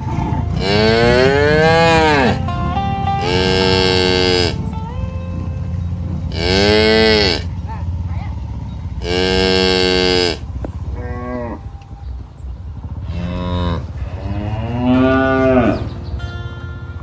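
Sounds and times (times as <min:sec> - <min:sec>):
cattle mooing: 0:00.0 - 0:16.2.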